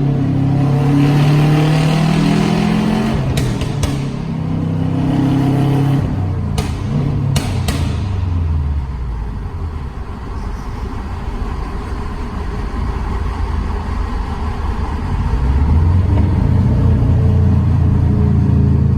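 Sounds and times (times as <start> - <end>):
car exhaust rumble: 0.0 - 18.9.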